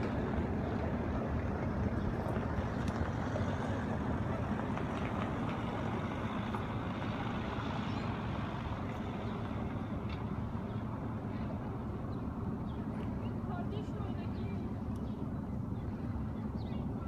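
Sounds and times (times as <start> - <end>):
distant engine rumble: 0.0 - 17.0.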